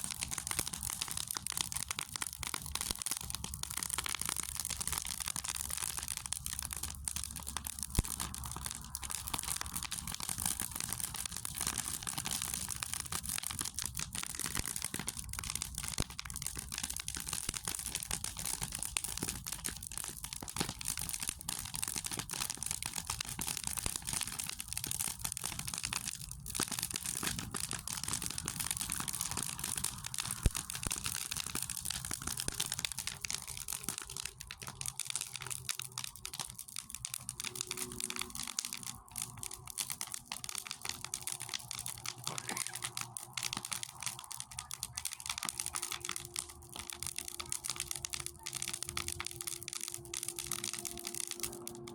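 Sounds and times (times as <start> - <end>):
fire popping: 0.0 - 51.9
wood fire crackling: 0.0 - 51.9.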